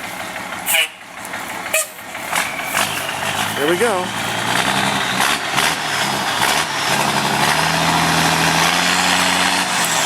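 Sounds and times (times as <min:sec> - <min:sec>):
truck engine straining: 0:00.0 - 0:10.0.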